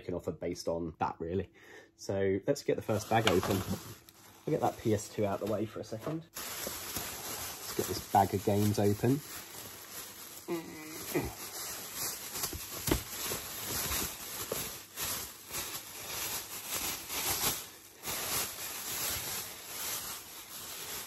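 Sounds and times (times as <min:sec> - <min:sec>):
plastic bag crinkling: 0:02.8 - 0:21.0.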